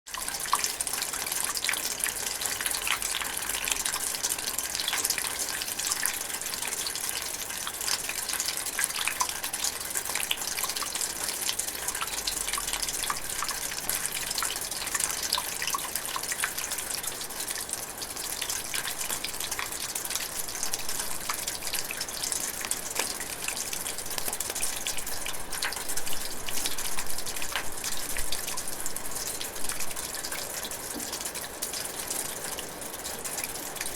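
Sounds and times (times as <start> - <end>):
water dripping in metal gutter: 0.1 - 33.9.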